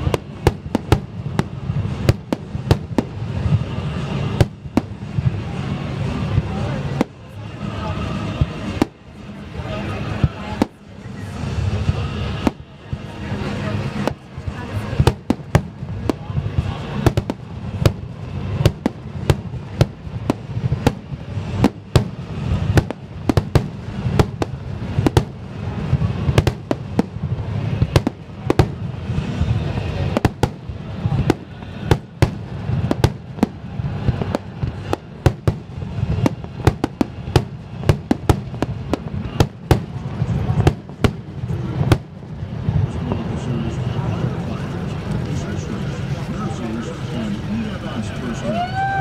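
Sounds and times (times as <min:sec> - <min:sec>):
low rumble: 0:00.0 - 0:48.5
fireworks bangs and cracks: 0:00.0 - 0:49.0.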